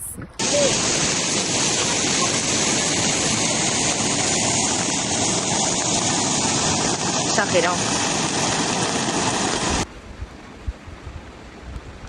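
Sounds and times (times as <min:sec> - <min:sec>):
storm water rushing: 0:00.4 - 0:12.0.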